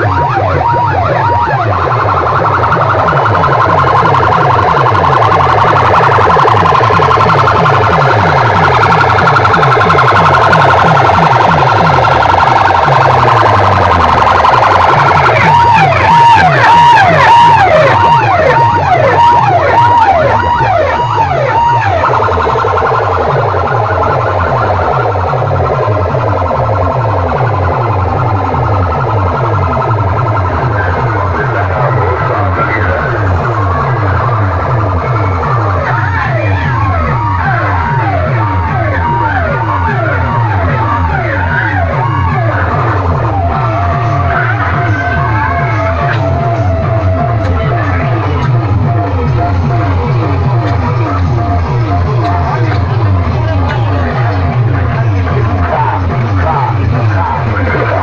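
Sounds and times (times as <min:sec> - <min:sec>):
loud siren-like electronic sweeps: 0:00.0 - 0:58.0
wavering tone: 0:00.0 - 0:58.0.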